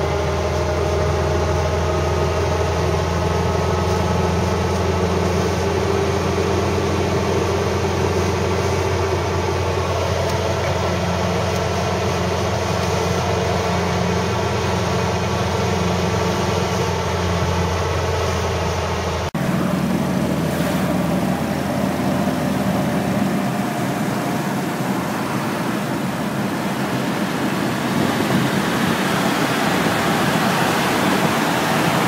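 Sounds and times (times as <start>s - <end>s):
car engine and road noise drone: 0.0s - 32.0s.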